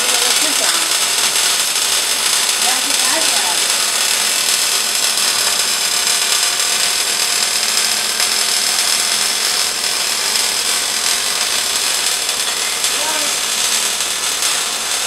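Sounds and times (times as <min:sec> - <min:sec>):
welding machine hiss: 0:00.0 - 0:15.0.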